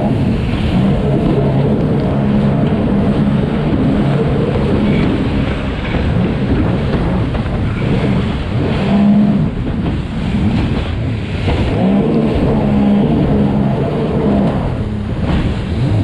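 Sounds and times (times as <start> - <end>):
personal watercraft engines racing: 0.0 - 16.0
steady rush of noise: 0.0 - 16.0.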